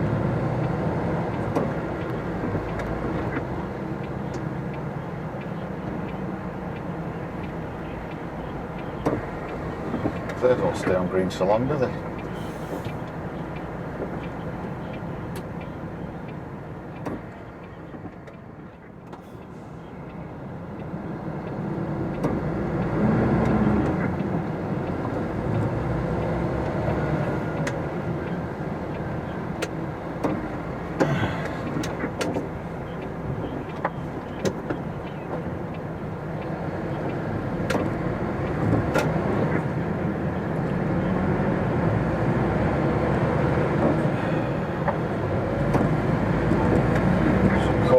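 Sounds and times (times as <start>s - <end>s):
diesel truck engine: 0.0s - 47.9s
road noise: 0.0s - 47.9s.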